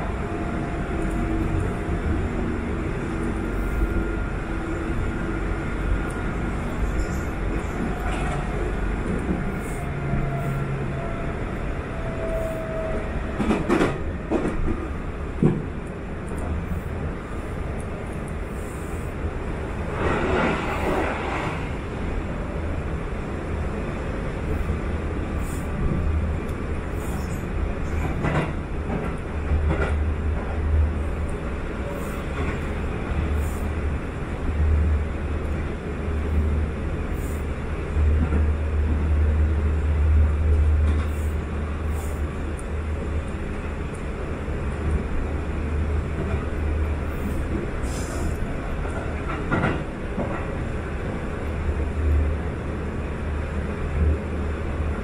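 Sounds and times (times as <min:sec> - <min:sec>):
train cabin low rumble: 0:00.0 - 0:55.0.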